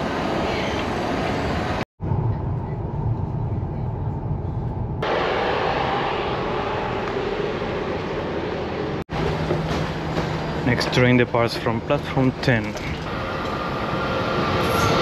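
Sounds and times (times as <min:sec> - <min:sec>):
low rumble of moving train: 0:00.0 - 0:15.0
station platform noise: 0:00.0 - 0:15.0.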